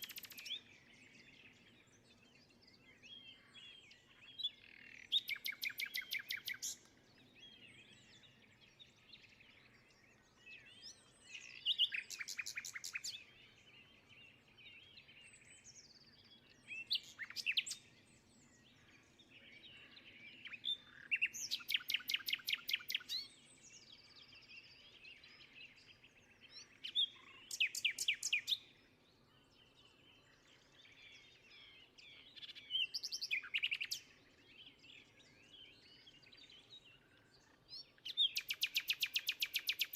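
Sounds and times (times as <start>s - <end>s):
faint bird chirps: 0.0s - 39.9s.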